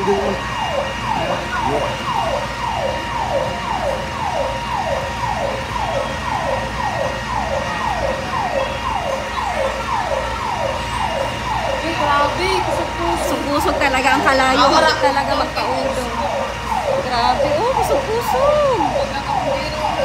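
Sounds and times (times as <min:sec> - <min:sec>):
fire truck siren wailing: 0:00.0 - 0:20.0.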